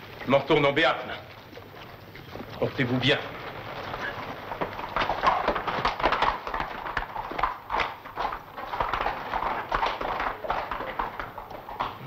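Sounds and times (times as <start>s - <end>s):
horse hooves clopping: 0.0s - 12.0s.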